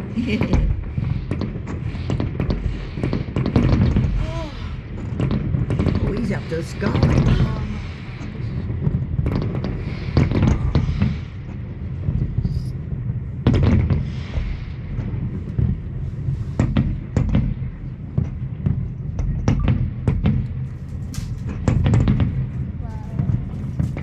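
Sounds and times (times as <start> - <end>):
firework crackling pops: 0.0 - 12.8, 13.4 - 24.0
muffled firework booms: 0.0 - 24.0.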